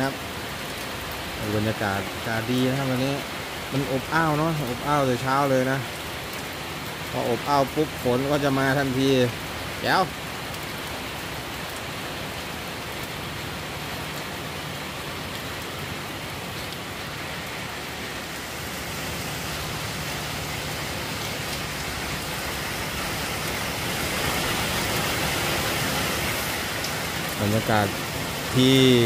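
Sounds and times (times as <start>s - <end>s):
heavy rain on paving: 0.0s - 29.0s.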